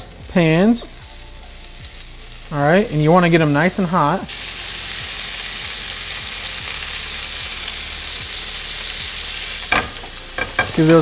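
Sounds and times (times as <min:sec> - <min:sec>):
butter and oil sizzling in a pan: 0:00.0 - 0:11.0.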